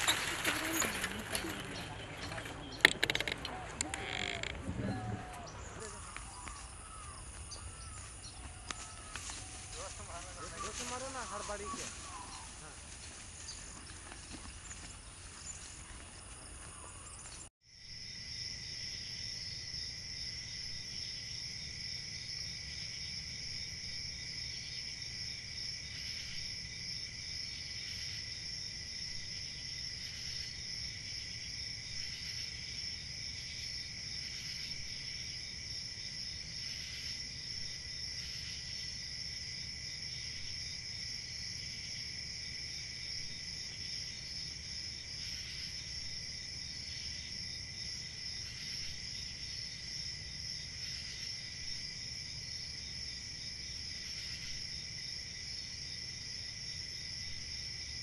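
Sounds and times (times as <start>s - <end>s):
crickets chirring: 0.0s - 58.0s.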